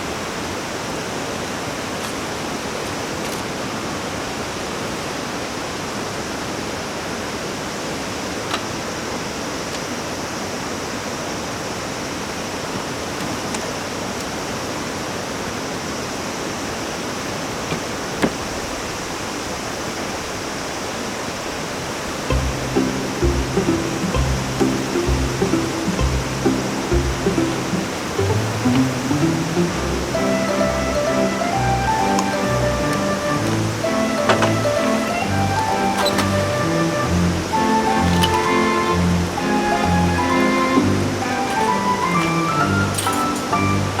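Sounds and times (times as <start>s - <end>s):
mountain stream rushing: 0.0s - 44.0s.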